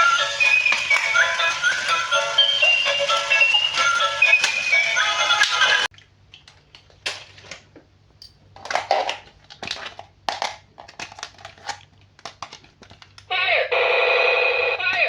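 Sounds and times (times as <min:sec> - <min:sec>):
plastic packaging crinkling and clicking: 0:00.0 - 0:07.9, 0:08.6 - 0:13.3.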